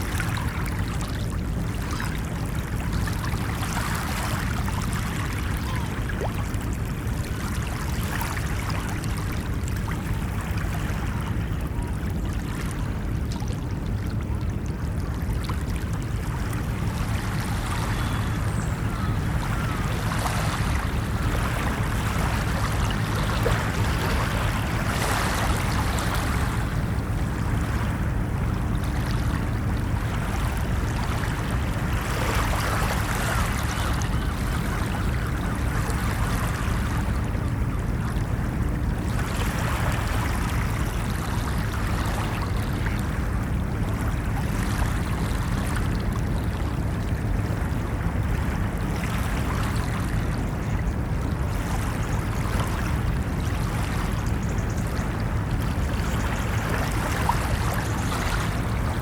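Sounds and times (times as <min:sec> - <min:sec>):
ocean waves washing in: 0:00.0 - 0:59.0
steady low rumble: 0:00.0 - 0:59.0.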